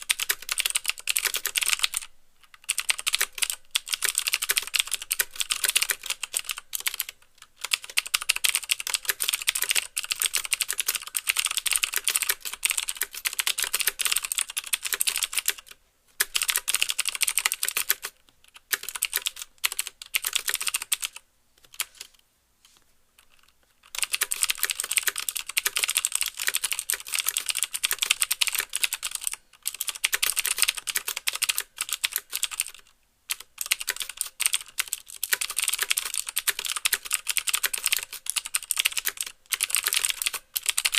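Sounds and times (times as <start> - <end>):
fast typing on mechanical keyboard: 0.0 - 22.1, 23.2 - 40.9.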